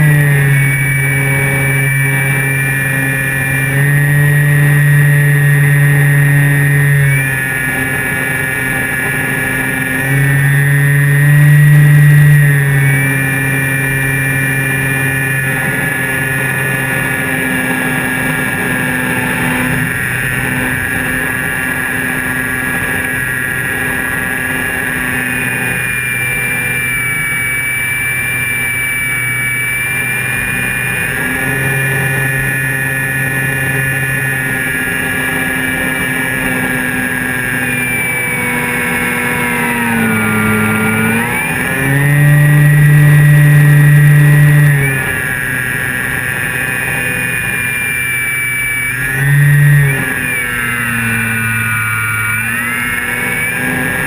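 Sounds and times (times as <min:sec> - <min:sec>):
model plane electric motor whine: 0:00.0 - 0:54.0.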